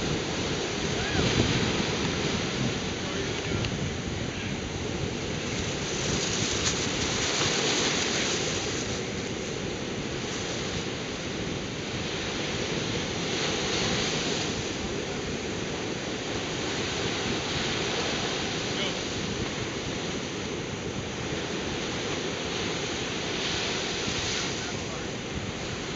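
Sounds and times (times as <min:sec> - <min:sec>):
ocean surf breaking on beach: 0:00.0 - 0:25.9.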